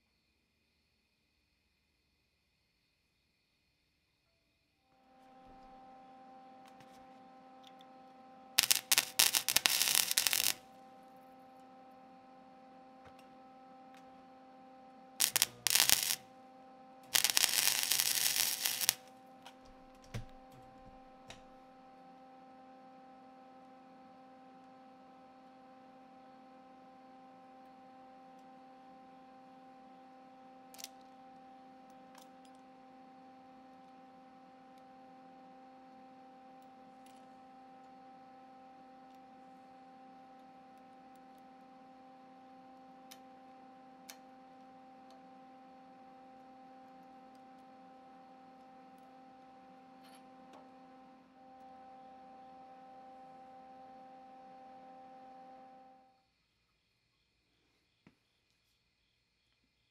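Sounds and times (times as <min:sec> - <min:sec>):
faint steady hum: 0:04.9 - 0:58.6.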